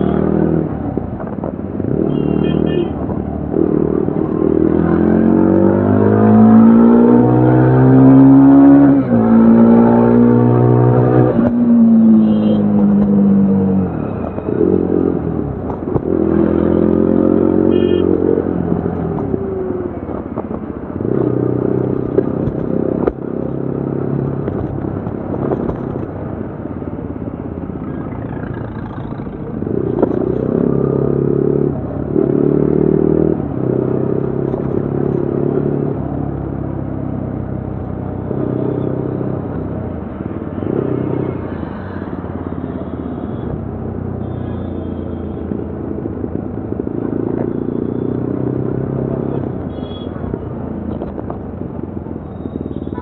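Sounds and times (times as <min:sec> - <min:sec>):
motorcycle engine while riding: 0:00.0 - 0:53.0.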